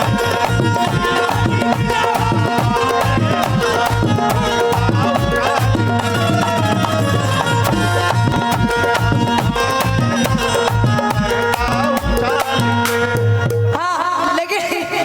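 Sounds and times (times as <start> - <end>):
folk music with hand drums: 0.0 - 14.9.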